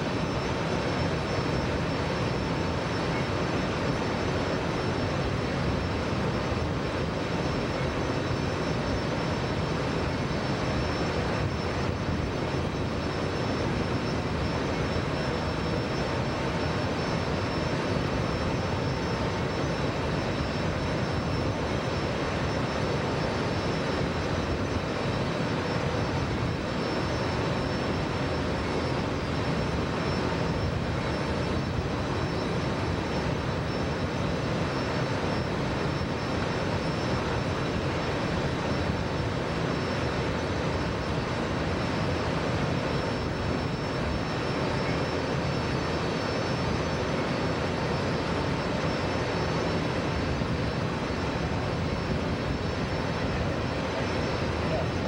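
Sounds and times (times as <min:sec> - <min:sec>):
faint steady tones: 0:00.0 - 0:55.0
mechanical drone with rushing noise: 0:00.0 - 0:55.0.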